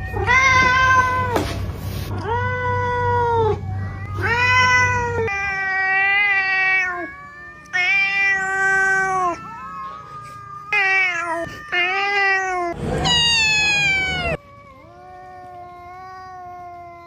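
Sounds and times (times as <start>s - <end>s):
cats yowling: 0.0s - 1.5s, 2.1s - 17.0s.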